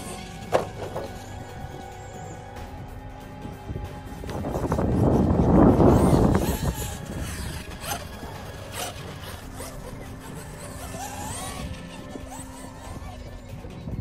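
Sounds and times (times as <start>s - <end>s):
electric toy truck motors whining: 0.0s - 14.0s.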